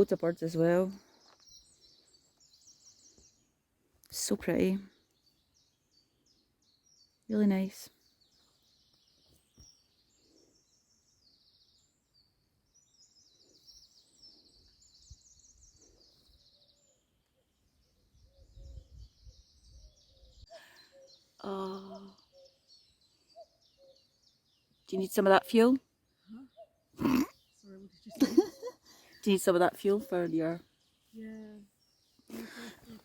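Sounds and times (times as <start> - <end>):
songbirds singing and chirping: 0.0 - 33.0.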